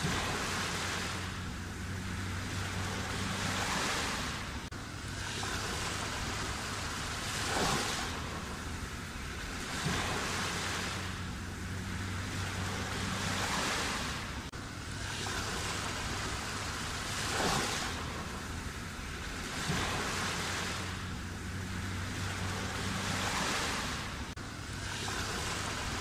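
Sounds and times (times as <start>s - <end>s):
waves breaking: 0.0s - 26.0s.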